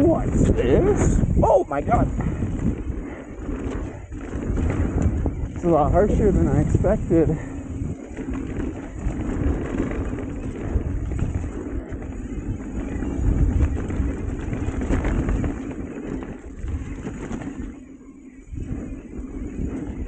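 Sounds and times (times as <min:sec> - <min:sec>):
mountain bike rattle and tyre noise: 0:00.0 - 0:20.0
wind buffeting microphone: 0:00.0 - 0:20.0.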